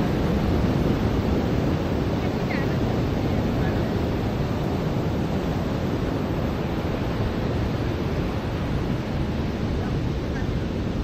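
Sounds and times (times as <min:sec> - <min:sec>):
ocean waves washing on beach: 0:00.0 - 0:11.0.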